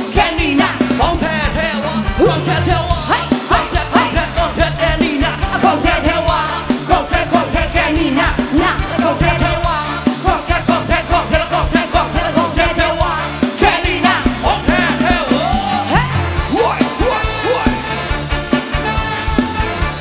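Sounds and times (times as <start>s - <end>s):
person singing: 0.0s - 18.0s
live rock band playing: 0.0s - 20.0s.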